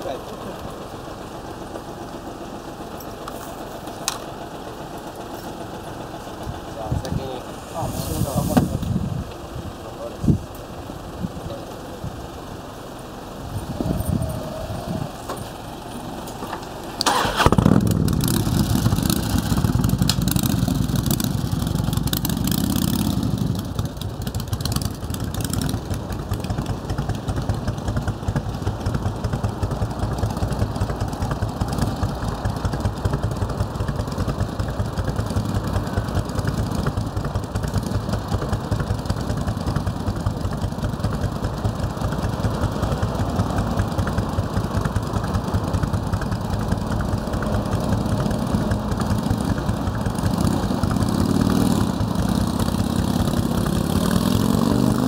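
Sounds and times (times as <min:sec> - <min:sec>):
motorcycle engine starting and idling: 0:00.0 - 0:55.0.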